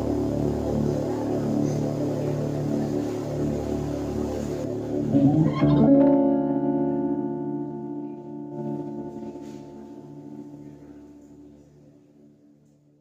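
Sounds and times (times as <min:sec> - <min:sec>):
band's sustained chord ringing: 0:00.0 - 0:12.4.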